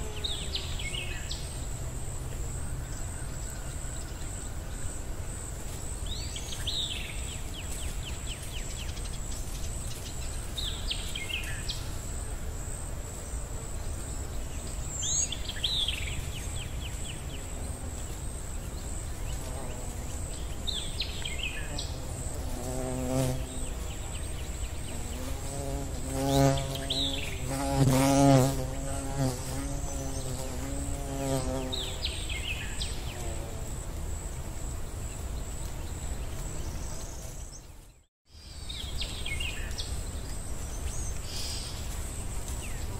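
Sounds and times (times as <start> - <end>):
high insect drone: 0.0 - 37.8.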